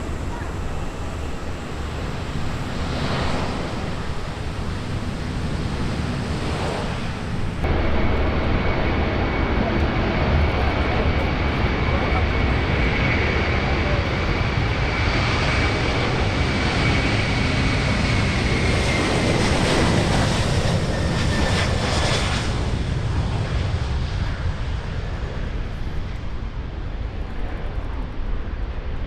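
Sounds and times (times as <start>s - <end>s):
jet airliner passing: 0.0s - 29.0s.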